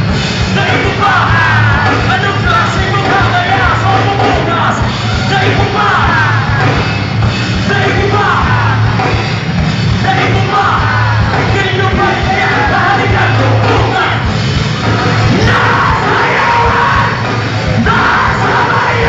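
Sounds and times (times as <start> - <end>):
drums: 0.0 - 19.0
electric guitars: 0.0 - 19.0.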